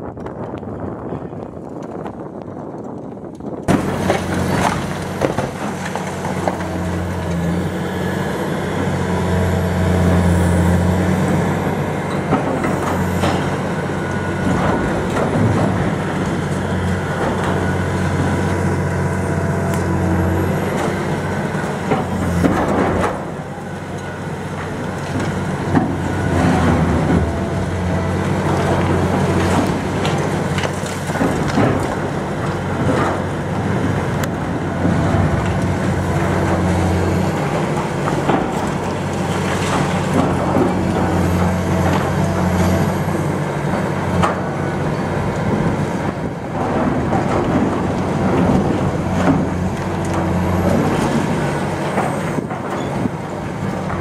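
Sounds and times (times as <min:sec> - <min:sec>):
excavator diesel engine: 0:02.3 - 0:54.0.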